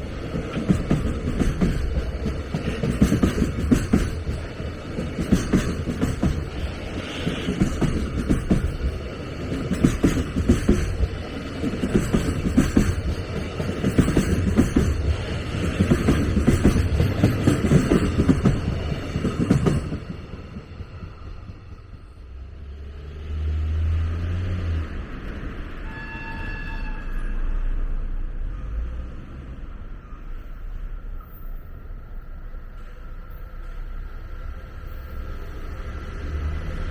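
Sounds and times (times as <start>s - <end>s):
train rumbling past: 0.0s - 36.9s.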